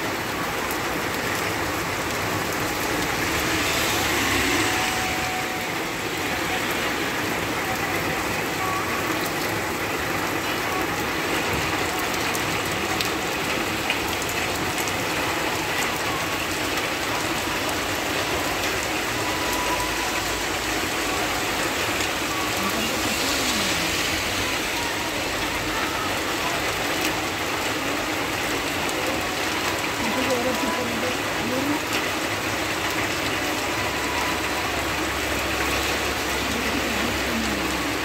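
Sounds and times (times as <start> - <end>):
heavy rain on road and leaves: 0.0 - 38.0.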